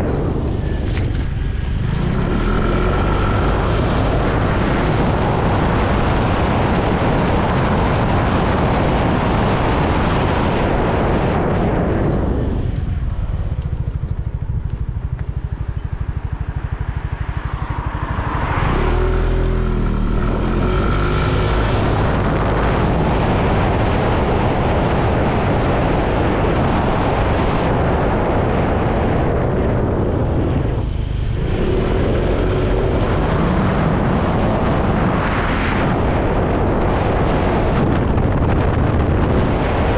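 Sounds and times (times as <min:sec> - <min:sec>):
motorbike engine: 0:00.0 - 0:39.9
wind rushing over microphone: 0:00.0 - 0:39.9.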